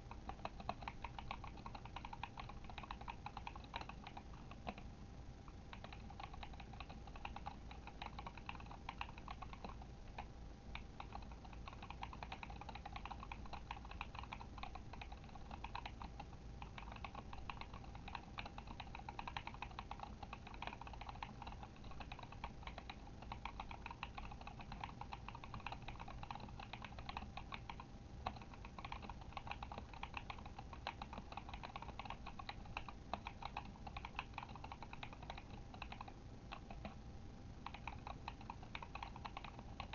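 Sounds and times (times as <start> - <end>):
mechanical keyboard typing: 0.0 - 4.9, 5.5 - 37.0, 37.6 - 39.9.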